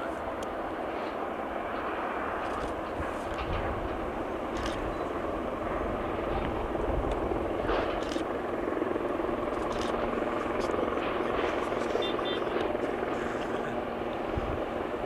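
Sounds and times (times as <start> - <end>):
helicopter flying past: 0.5 - 15.0.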